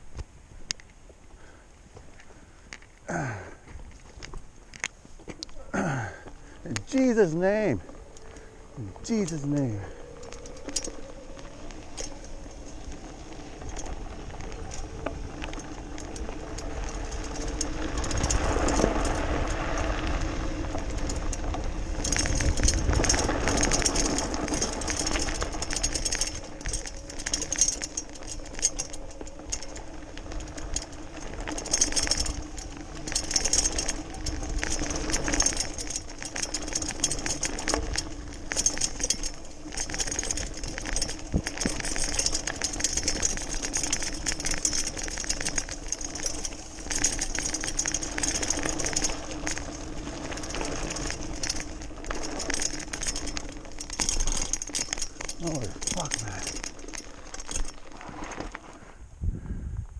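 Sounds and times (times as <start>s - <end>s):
bike rattling and clicking: 0.0s - 59.0s
tyre noise on gravel: 0.0s - 59.4s.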